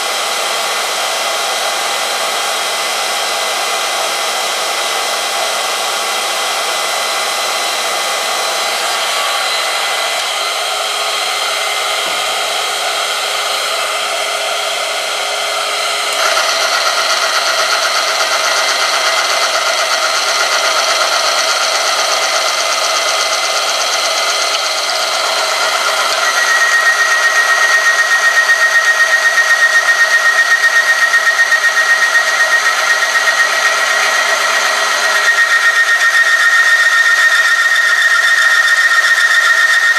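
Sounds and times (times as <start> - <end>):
machine motor whirring and grinding: 5.8 - 39.9
high fast-pulsing squeal: 6.2 - 39.9.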